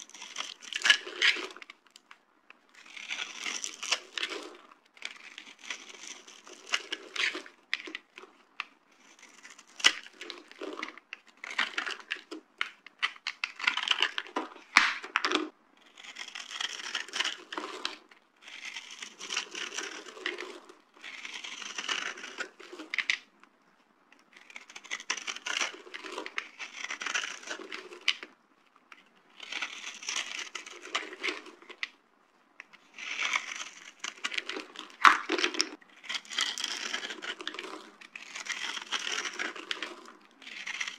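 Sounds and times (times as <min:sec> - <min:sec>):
dry soap being crushed: 0:00.0 - 0:23.3, 0:24.2 - 0:32.0, 0:32.6 - 0:40.9.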